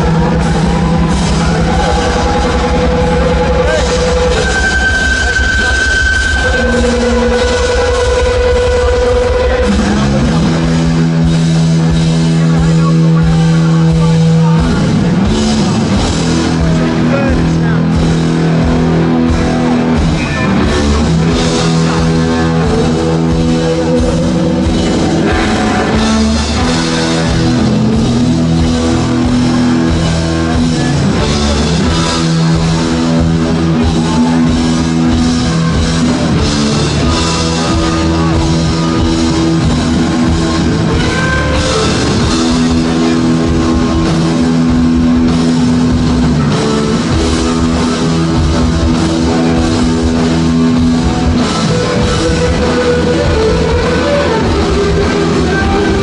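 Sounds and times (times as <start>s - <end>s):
electric guitar lead lines: 0.0s - 56.0s
rock band playing live: 0.0s - 56.0s.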